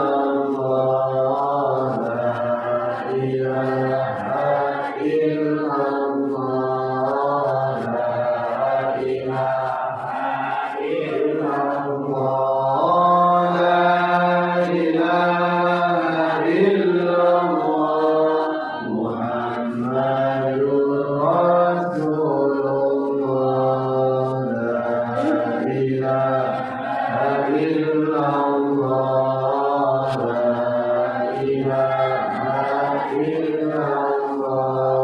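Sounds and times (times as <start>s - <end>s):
melodic chanting: 0.0s - 35.0s.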